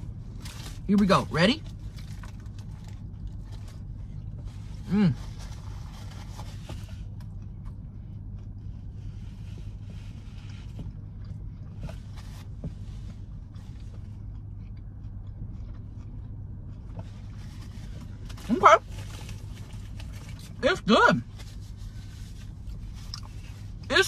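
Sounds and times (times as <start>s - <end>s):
low steady hum: 0.0s - 24.0s
person chewing food: 1.7s - 20.6s, 22.4s - 23.7s.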